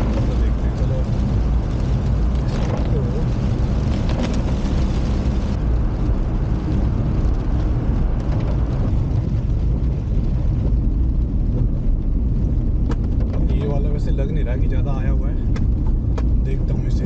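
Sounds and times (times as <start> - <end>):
rain and water spray hiss: 0.0 - 13.9
car engine and tyres on wet road: 0.0 - 17.0.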